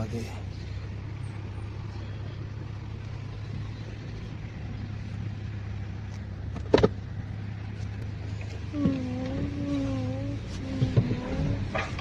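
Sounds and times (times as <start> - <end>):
car engine low hum: 0.0 - 12.0.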